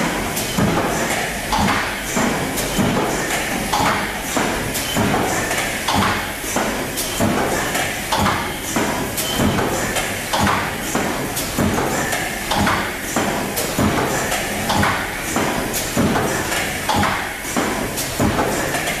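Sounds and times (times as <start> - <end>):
continuous machine noise: 0.0 - 19.0.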